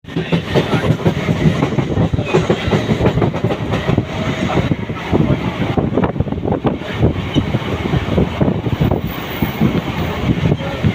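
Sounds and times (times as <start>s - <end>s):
train rumble: 0.0s - 10.9s
train wheels knocking on rails: 0.1s - 10.9s.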